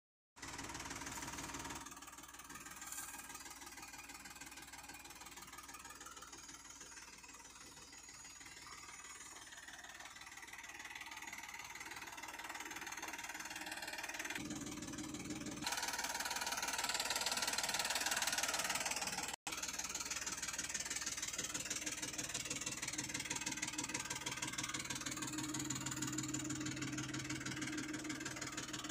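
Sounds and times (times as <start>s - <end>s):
tractor diesel engine idling: 0.4s - 28.9s.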